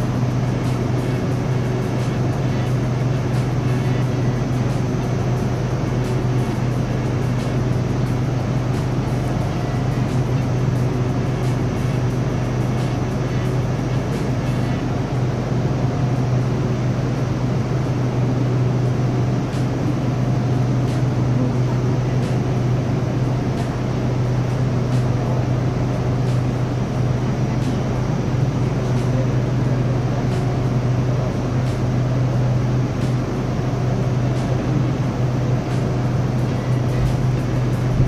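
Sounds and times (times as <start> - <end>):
electric train hum and rumble: 0.0 - 38.0.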